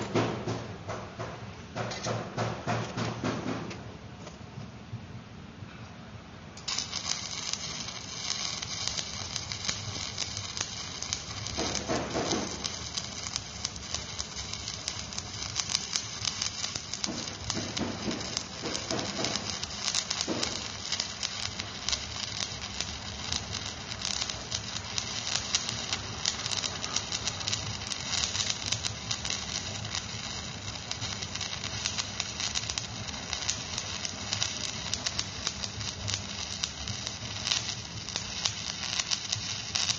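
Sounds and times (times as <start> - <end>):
arc welding crackle and sizzle: 6.6 - 39.9.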